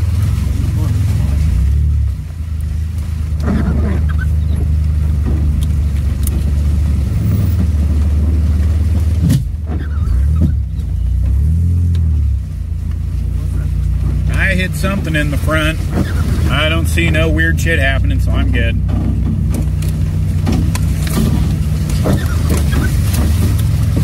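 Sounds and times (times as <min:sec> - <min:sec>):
body and suspension rattling: 0:00.0 - 0:24.0
minivan engine droning: 0:00.0 - 0:24.0.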